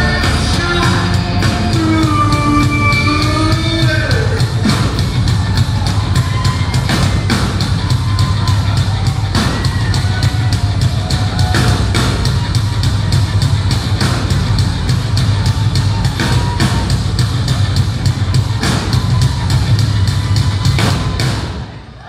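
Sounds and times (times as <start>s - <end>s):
drum kit playing a fast beat: 0.0s - 21.6s
bass guitar: 0.0s - 21.8s.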